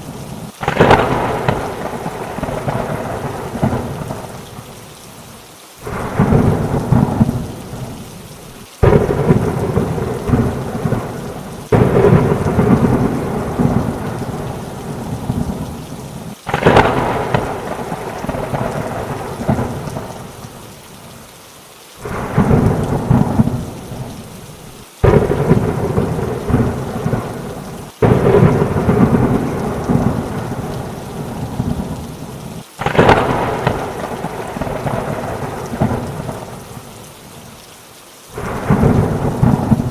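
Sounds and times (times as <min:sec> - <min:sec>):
steady rain: 0:00.0 - 0:39.9
thunderclaps: 0:00.6 - 0:04.6, 0:05.9 - 0:08.0, 0:08.8 - 0:15.8, 0:16.5 - 0:20.3, 0:22.0 - 0:24.2, 0:25.0 - 0:36.6, 0:38.4 - 0:39.9.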